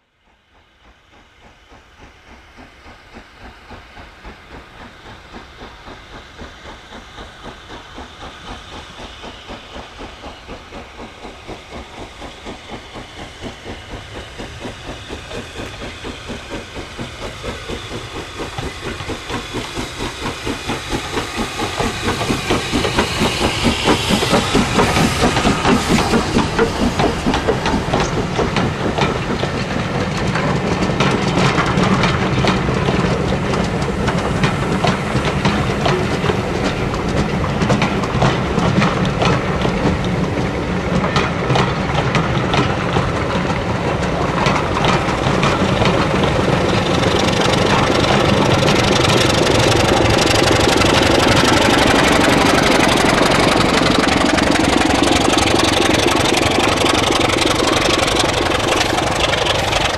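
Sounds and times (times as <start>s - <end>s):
steam locomotive exhaust beats: 0.0s - 59.9s
steam hiss: 0.2s - 59.9s.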